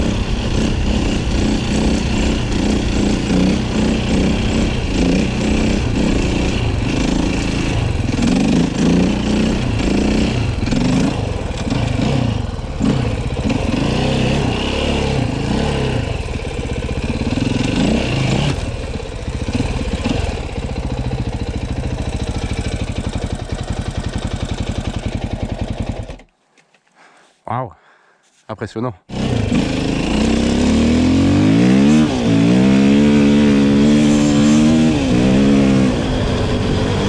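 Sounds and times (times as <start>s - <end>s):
motorcycle engine revving: 0.0s - 26.3s, 29.1s - 37.0s.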